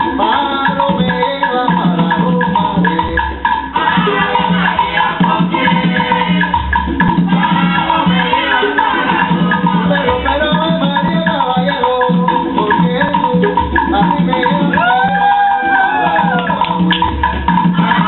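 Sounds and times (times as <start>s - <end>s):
salsa music: 0.0s - 18.0s.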